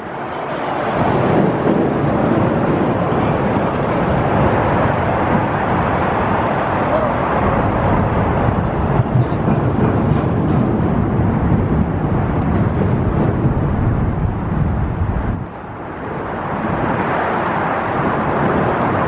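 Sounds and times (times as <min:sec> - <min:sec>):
propeller churning water: 0:00.0 - 0:19.0.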